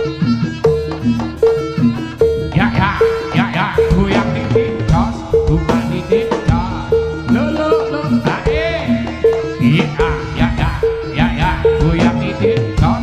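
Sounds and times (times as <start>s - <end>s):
hand drums: 0.0s - 13.0s
repeating two-note pattern: 0.0s - 13.0s
wavering high melody: 0.0s - 13.0s.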